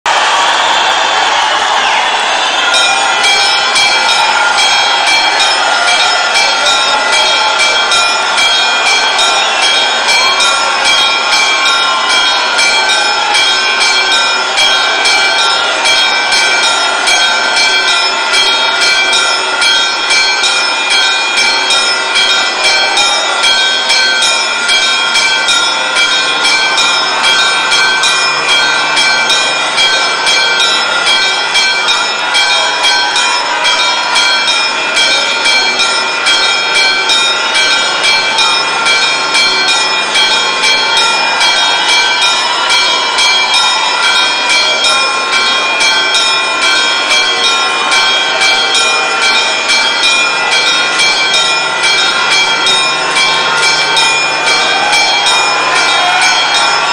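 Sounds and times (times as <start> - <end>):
church bells pealing: 0.1 - 56.9.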